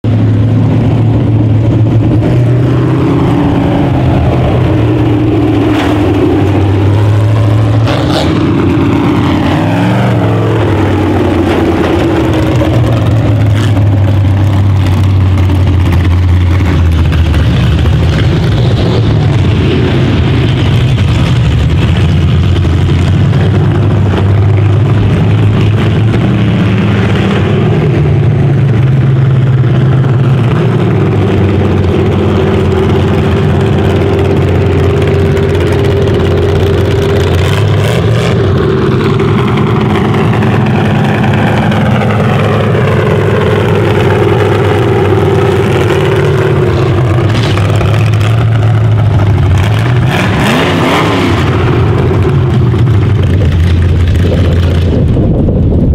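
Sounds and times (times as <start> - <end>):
car engine running loudly: 0.0 - 55.9.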